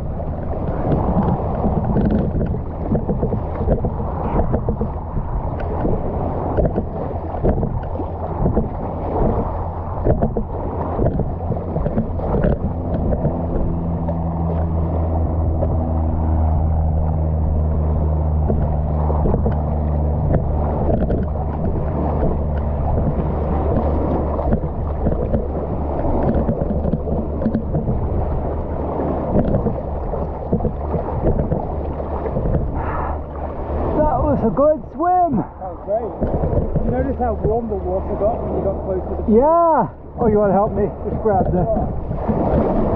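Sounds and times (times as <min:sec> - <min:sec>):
boat motor humming: 0:00.0 - 0:42.9
water splashing and sloshing: 0:00.0 - 0:42.9.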